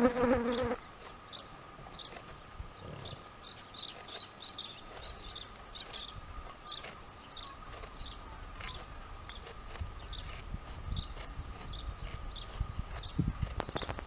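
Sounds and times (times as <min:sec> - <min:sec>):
small birds chirping: 0:00.2 - 0:14.0
camels chewing: 0:00.9 - 0:14.0.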